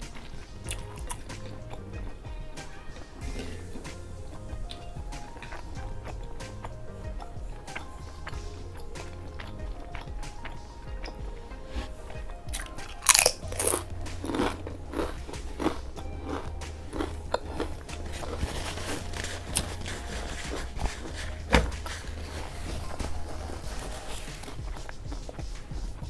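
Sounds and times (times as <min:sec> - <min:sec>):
chewing crunchy chips: 0:00.0 - 0:02.2, 0:04.7 - 0:24.9.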